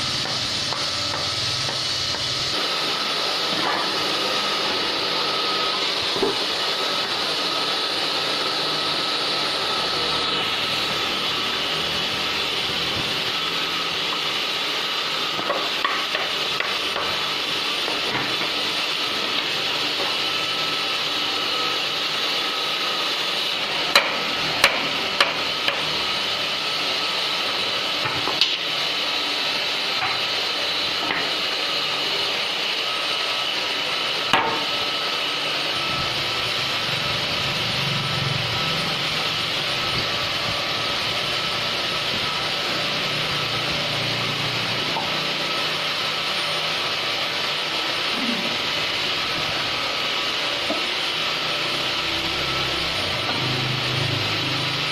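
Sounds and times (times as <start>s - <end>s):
woodworking machine whirring: 0.0s - 54.9s.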